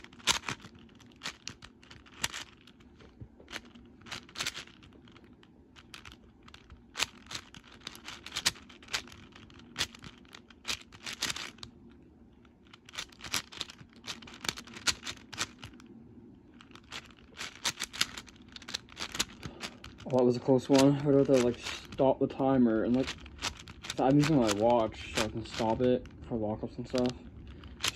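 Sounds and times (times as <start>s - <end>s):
puzzle cube plastic clacking: 0.0s - 15.9s, 16.5s - 27.9s.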